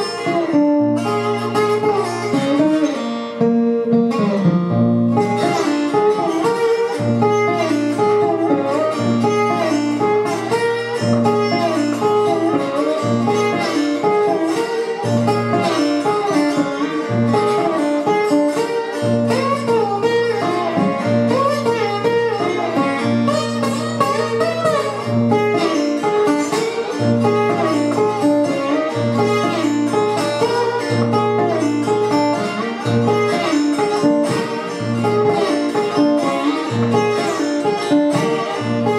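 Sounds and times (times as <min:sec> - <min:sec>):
plucked acoustic guitar blues: 0:00.0 - 0:38.9.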